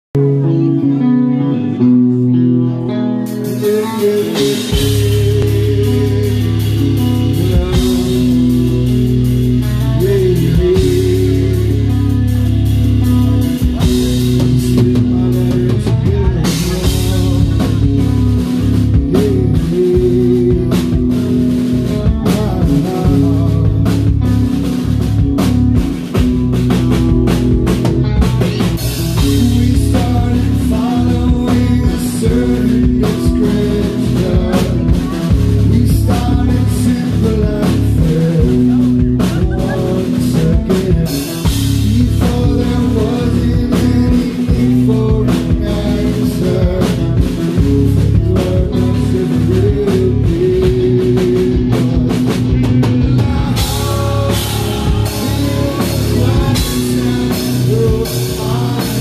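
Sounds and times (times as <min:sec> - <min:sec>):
heavy metal band playing live: 0:00.2 - 0:59.0
person singing: 0:00.2 - 0:59.0.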